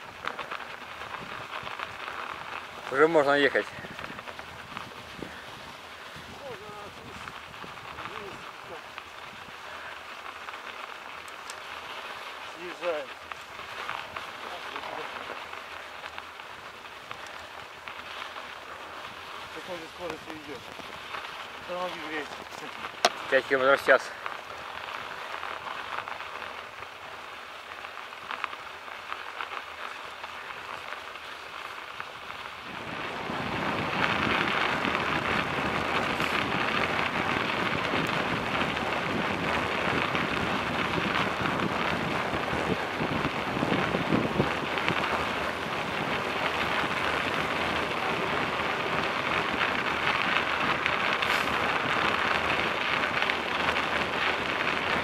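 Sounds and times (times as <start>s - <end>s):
bicycle tyres rolling over snow: 0.0s - 55.0s.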